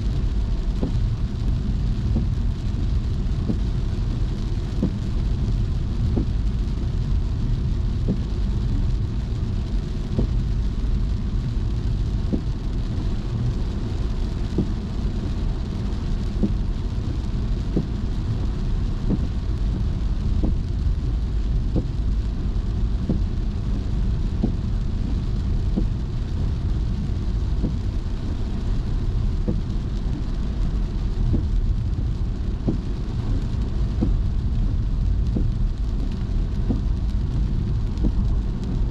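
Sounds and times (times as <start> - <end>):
car driving on wet road: 0.0 - 38.9
faint light ticks: 0.0 - 38.9
rain and spray hiss: 0.0 - 38.9.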